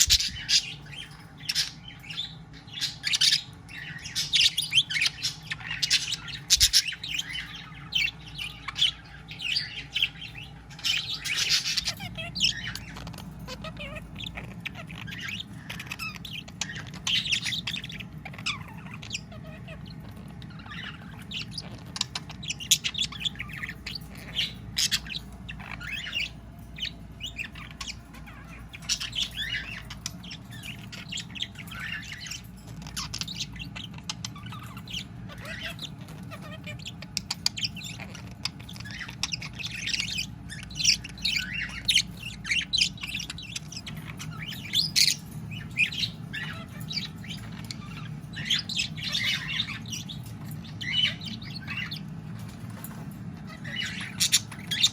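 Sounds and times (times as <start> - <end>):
budgerigar chattering and warbling: 0.0 - 52.2, 53.2 - 54.9.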